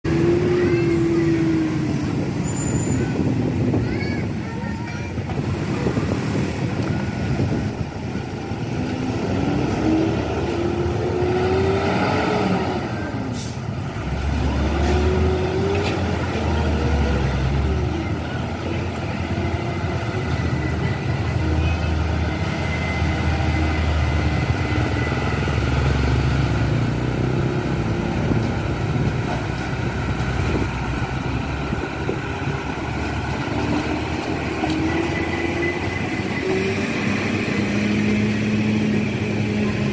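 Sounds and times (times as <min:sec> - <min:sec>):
diesel trucks driving past: 0:00.0 - 0:39.9.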